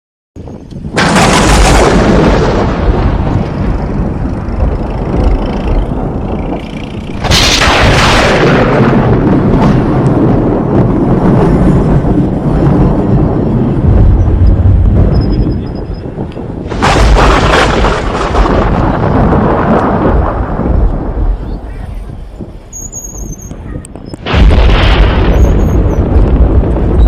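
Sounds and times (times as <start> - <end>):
thunder cracking and rumbling: 0.4 - 27.0.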